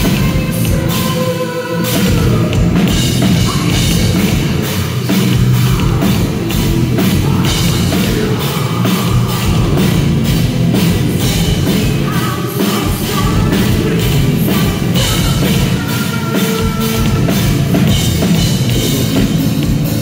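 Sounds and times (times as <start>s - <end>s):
live heavy metal band: 0.0s - 20.0s
pounding drum kit: 0.0s - 20.0s.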